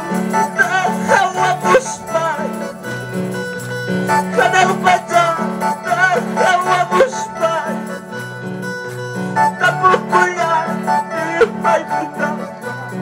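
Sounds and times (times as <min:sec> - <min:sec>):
electronic keyboard worship music: 0:00.0 - 0:13.0.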